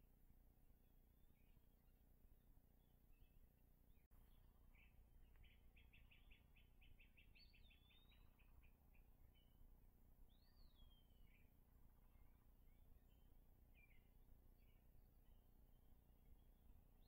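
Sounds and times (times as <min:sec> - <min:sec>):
faint songbird singing: 0:00.0 - 0:17.0.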